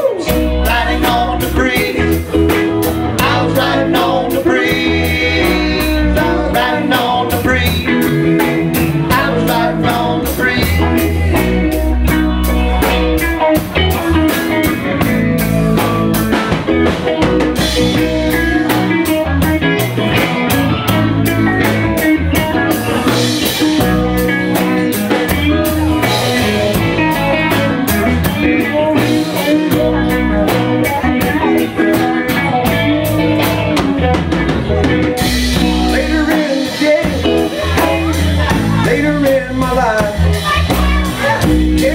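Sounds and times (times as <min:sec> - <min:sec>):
drum kit: 0:00.0 - 0:41.9
electric guitar: 0:00.0 - 0:41.9.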